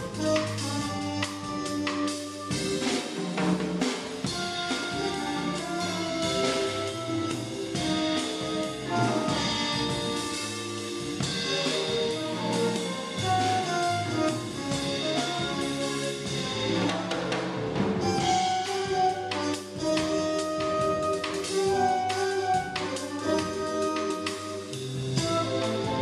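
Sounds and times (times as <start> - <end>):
bass: 0.0 - 26.0
drum kit: 0.0 - 26.0
flute: 0.0 - 26.0
trombone: 0.0 - 26.0
trumpet: 0.0 - 26.0.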